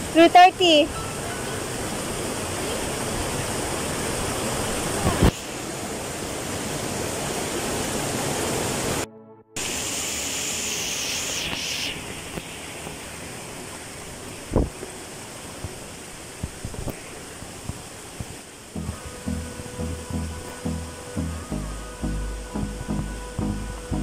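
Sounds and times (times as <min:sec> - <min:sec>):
stream rushing over boulders: 0:00.0 - 0:24.0.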